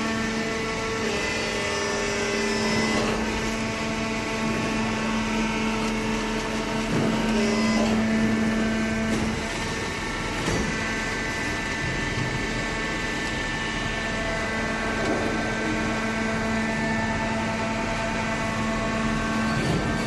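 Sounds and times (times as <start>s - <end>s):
baler machine humming and whining: 0.0s - 20.0s.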